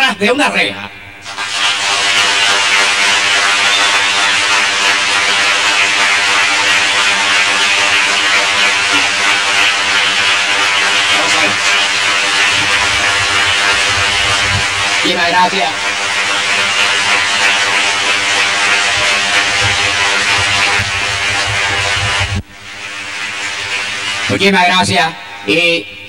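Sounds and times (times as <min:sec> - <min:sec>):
audience applauding: 0:01.2 - 0:24.4.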